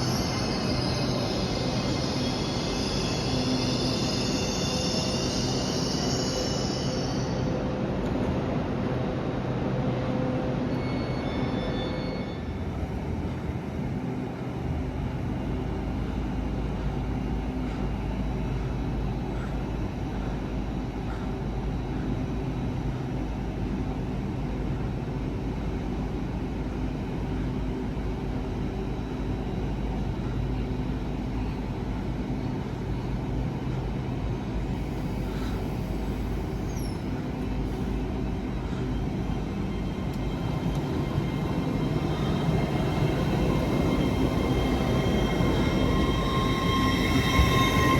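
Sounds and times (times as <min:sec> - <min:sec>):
train running hum: 0:00.0 - 0:47.9.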